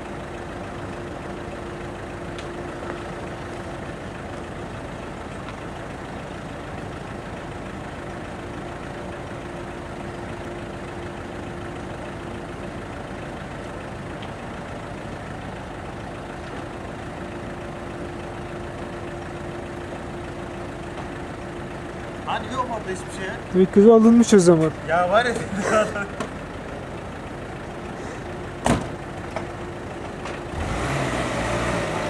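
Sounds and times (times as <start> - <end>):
mid-pitched hum: 0.0 - 30.6
truck engine idling: 0.0 - 30.8.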